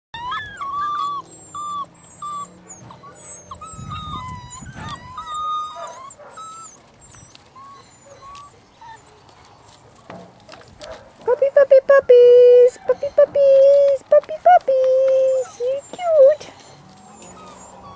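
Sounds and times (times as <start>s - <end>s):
puppies whining and squealing: 0.2s - 17.9s.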